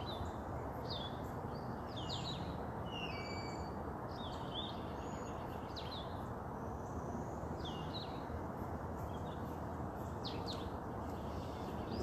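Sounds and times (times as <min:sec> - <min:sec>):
sweeping bird calls: 0:00.0 - 0:08.3, 0:09.0 - 0:12.0
distant highway traffic: 0:00.0 - 0:12.0.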